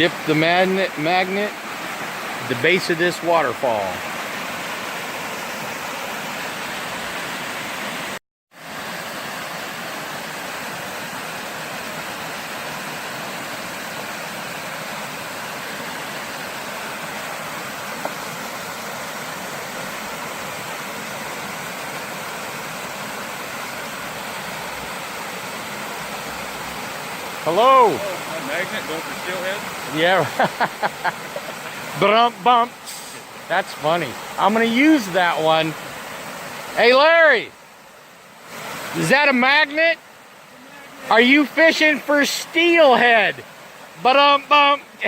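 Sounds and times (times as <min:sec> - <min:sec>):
small waterfall rushing: 0:00.0 - 0:45.0.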